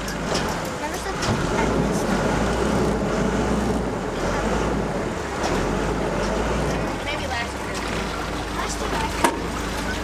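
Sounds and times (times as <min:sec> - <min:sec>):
boat engine humming: 0:00.0 - 0:10.0
water washing around hull: 0:00.0 - 0:10.0.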